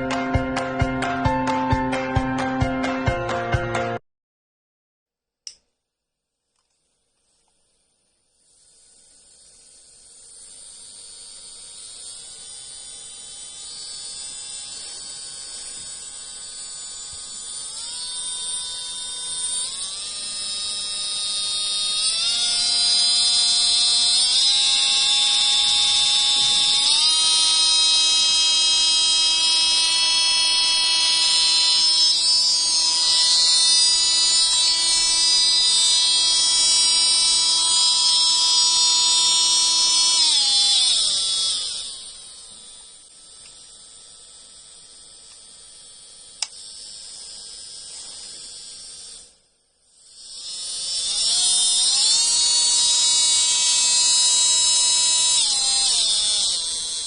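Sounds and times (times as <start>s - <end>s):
electric nail drill whining: 0.0s - 3.0s, 7.3s - 57.0s.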